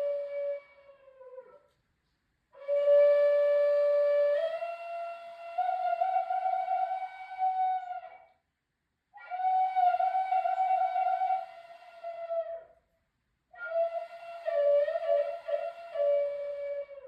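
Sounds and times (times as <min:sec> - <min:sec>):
flute playing long notes: 0:00.0 - 0:01.6, 0:02.6 - 0:08.3, 0:09.2 - 0:12.7, 0:13.6 - 0:17.0.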